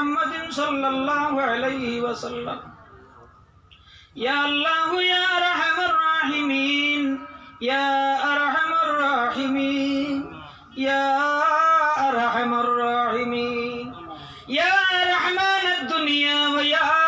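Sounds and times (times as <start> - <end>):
man singing unaccompanied: 0.0 - 2.7, 4.2 - 17.0.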